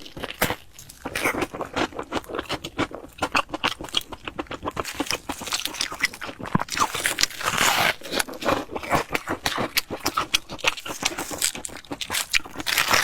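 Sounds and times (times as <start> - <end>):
chewing crispy fried bread: 0.0 - 13.0.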